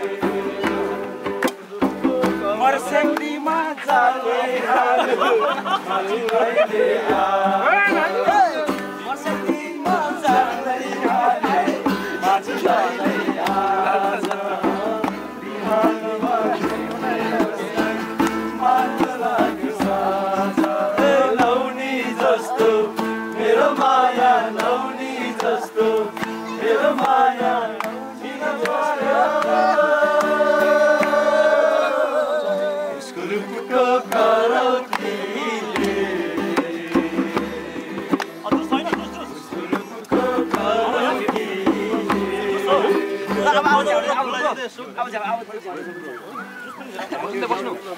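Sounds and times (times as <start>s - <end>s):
group of people singing: 0.0s - 44.5s
acoustic guitar: 0.0s - 47.9s.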